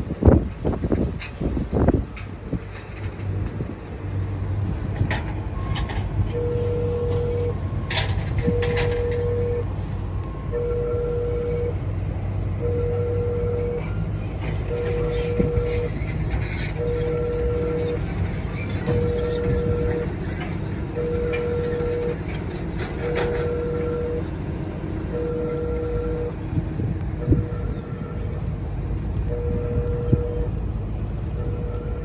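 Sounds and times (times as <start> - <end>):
low hum: 0.6 - 32.0.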